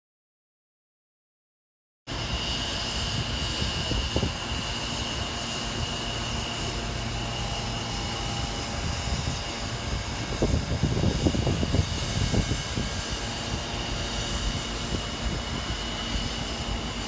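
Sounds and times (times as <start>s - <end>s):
steady low rumble: 2.1s - 17.0s.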